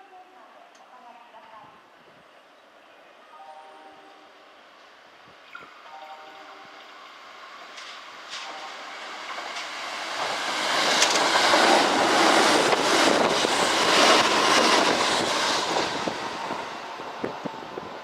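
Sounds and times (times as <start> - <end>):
electric train passing: 3.2 - 18.0.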